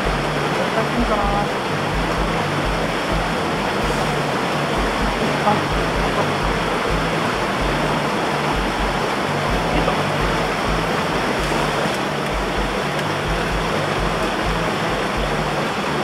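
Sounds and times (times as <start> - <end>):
background music with bass: 0.0 - 16.0
stream rushing over rocks: 0.0 - 16.0.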